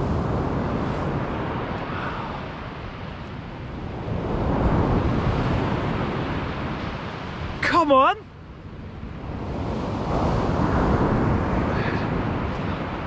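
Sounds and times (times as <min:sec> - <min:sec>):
waves breaking on beach: 0:00.0 - 0:13.0
wind rumbling on microphone: 0:00.0 - 0:13.0.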